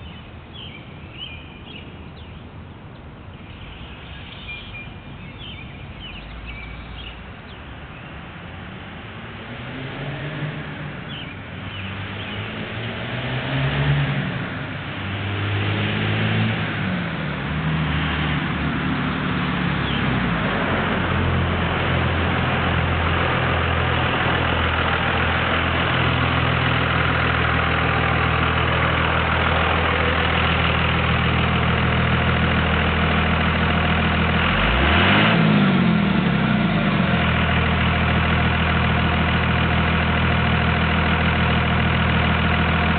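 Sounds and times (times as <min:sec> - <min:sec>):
diesel engine idling and revving: 0:00.0 - 0:42.9.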